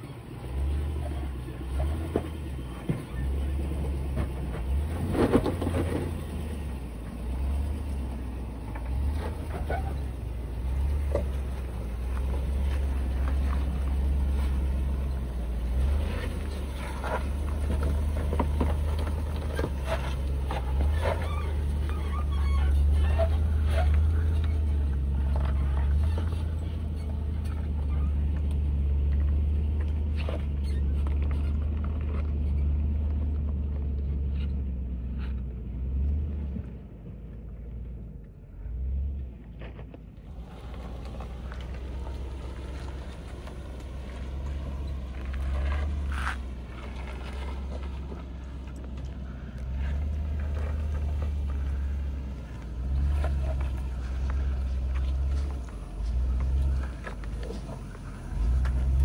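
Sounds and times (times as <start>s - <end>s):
vehicle rumble: 0.0s - 59.0s.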